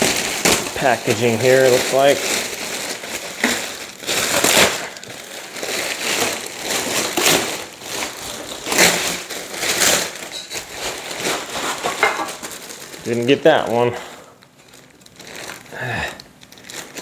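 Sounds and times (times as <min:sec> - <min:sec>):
packaging crinkling: 0:00.0 - 0:17.0.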